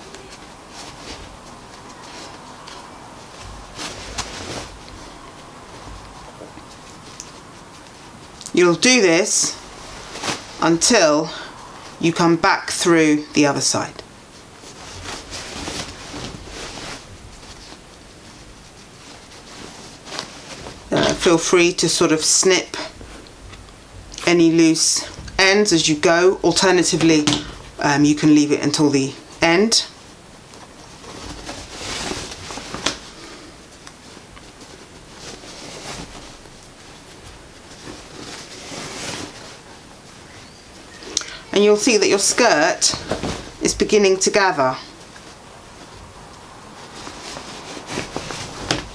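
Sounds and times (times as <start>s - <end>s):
fabric rustling: 0.0s - 48.9s.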